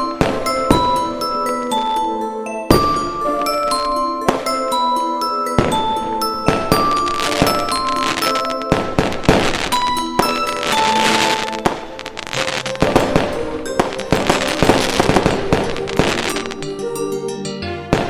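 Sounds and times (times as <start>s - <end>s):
fireworks bangs and crackling: 0.0s - 2.0s, 2.7s - 16.8s
background music with held notes: 0.0s - 18.0s.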